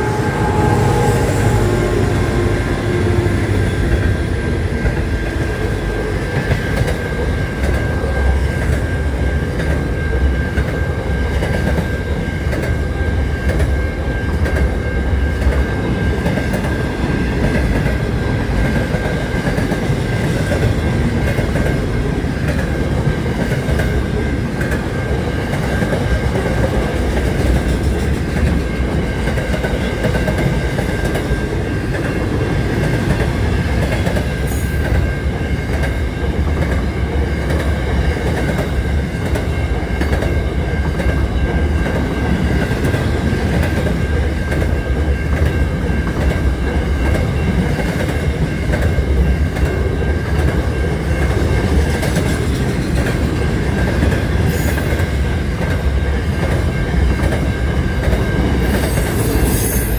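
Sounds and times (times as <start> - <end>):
steady high tone: 0.0 - 59.9
train wheels rumbling on rails: 0.0 - 59.9.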